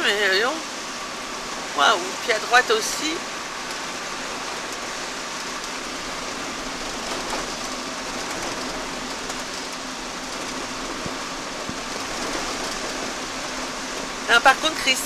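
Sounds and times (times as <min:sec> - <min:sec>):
heavy rain: 0:00.0 - 0:15.0
tyres on wet road: 0:00.0 - 0:15.0.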